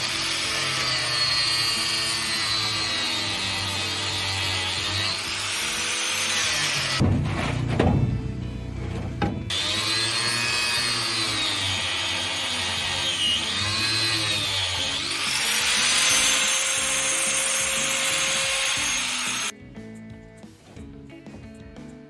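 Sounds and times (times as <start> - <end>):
power tool cutting: 0.0 - 7.8, 8.8 - 19.5.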